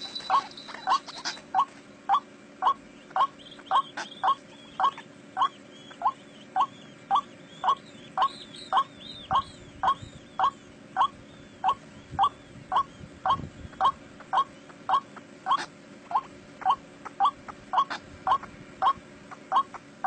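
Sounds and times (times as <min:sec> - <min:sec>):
faint high chirping: 0:00.0 - 0:19.9
waterhen calling: 0:00.0 - 0:20.0.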